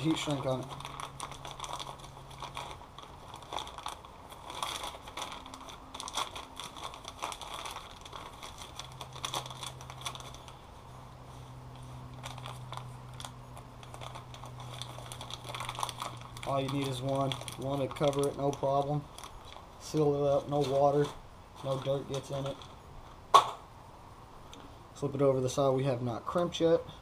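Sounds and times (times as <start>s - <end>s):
plastic bag crinkling: 0.0s - 23.2s
low steady hum: 0.0s - 27.0s.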